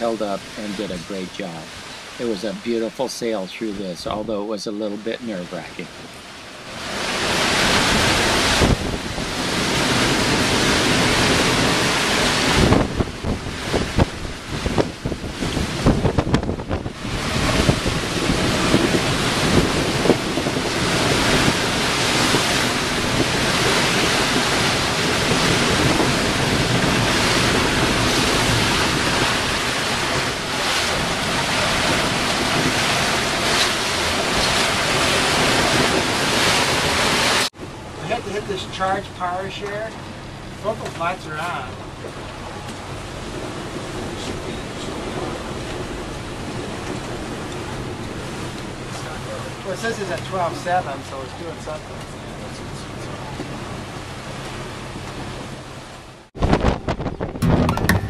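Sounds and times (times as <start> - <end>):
breaking seas: 0.0 - 58.0
water rushing past hull: 0.0 - 58.0
wind buffeting microphone: 5.2 - 58.0.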